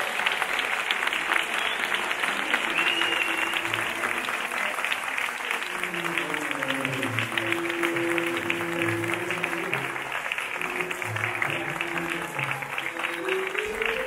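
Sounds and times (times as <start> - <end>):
audience applauding: 0.0 - 14.0
person clapping close by: 0.0 - 14.0.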